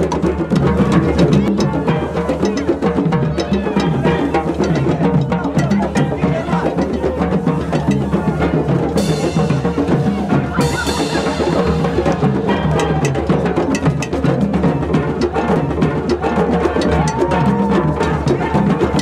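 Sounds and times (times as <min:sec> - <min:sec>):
hand drums beating fast rhythm: 0:00.0 - 0:19.0.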